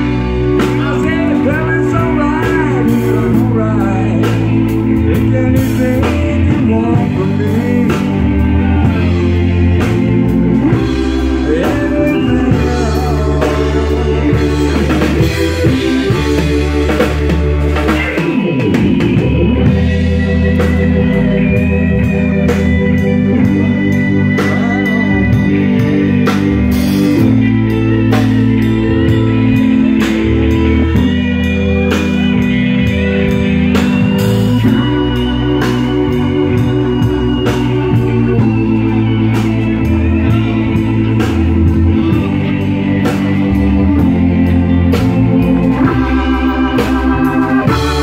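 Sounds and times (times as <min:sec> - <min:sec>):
electric guitar lead lines: 0:00.0 - 0:48.0
held organ chords: 0:00.0 - 0:48.0
synth: 0:00.0 - 0:48.0.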